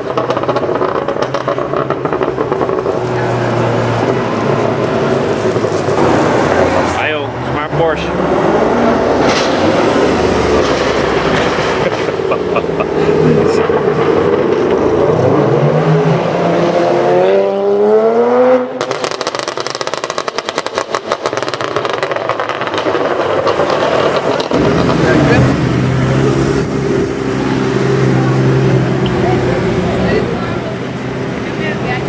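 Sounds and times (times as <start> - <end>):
exhaust crackles and pops: 0.0 - 16.4, 18.7 - 32.0
car engine accelerating: 0.0 - 32.0.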